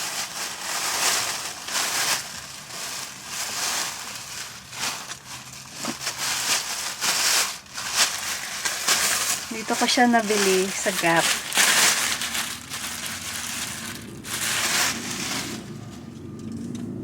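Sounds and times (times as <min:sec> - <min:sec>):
shopping bag rustling and crinkling: 0:00.0 - 0:16.1.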